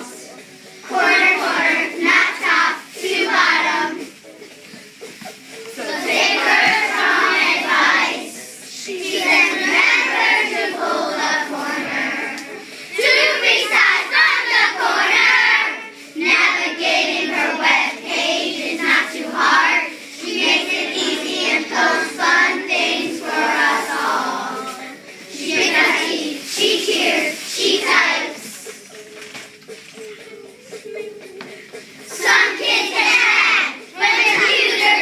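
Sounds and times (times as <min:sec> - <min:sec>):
children singing in unison: 0:00.0 - 0:04.3, 0:05.4 - 0:28.8, 0:30.2 - 0:35.0.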